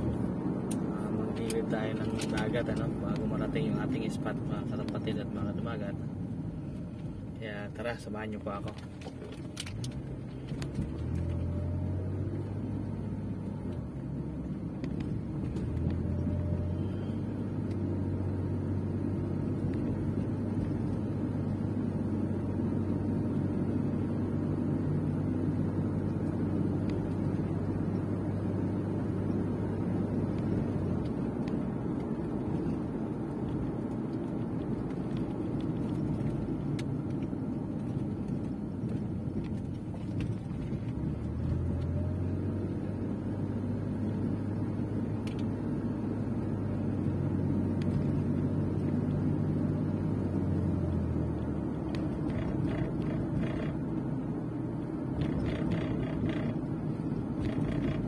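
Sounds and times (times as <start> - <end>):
car engine hum: 0.0 - 58.0
tyre and road rumble: 0.0 - 58.0.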